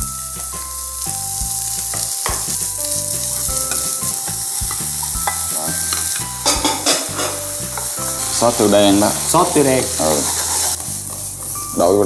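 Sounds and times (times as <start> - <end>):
vegetables sizzling in a frying pan: 0.0 - 12.0
wooden spatula stirring: 0.5 - 11.6.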